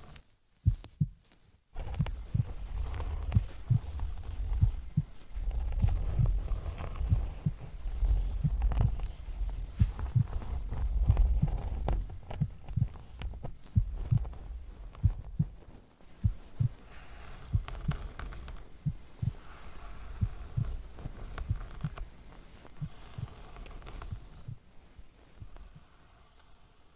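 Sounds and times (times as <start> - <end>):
heartbeat thumps: 0.6 - 24.7, 25.4 - 25.8.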